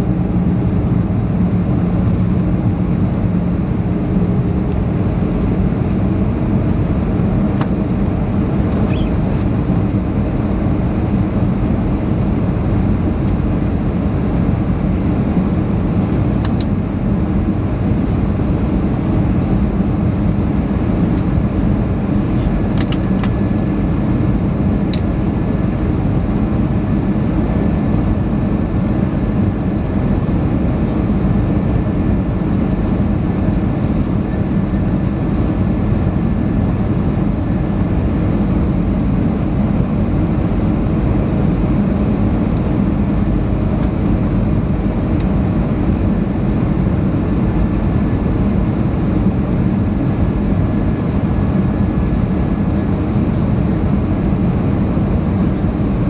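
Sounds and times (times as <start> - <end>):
jet engine rumble and rushing air: 0.0 - 56.0.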